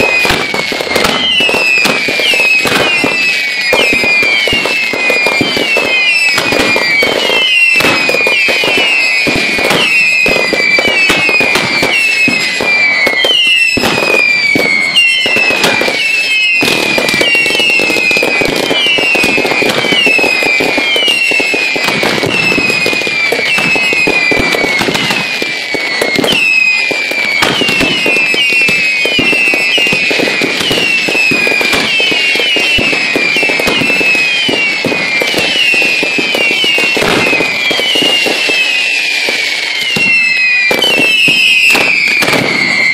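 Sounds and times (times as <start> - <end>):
fireworks popping and crackling: 0.0 - 42.9
fireworks whistles falling in pitch: 0.0 - 42.9.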